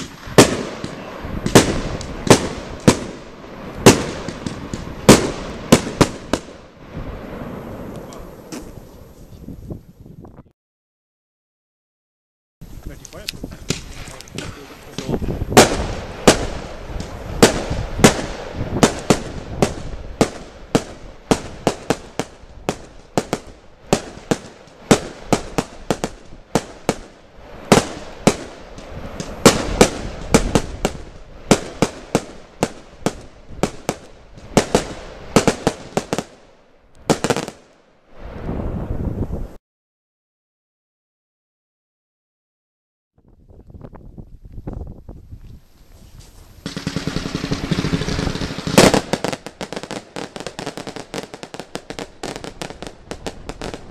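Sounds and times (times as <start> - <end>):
firework crackling: 0.0 - 9.3, 12.6 - 39.6, 45.6 - 53.9
firework shots with sharp reports: 0.0 - 10.0, 12.9 - 39.6, 46.6 - 53.9.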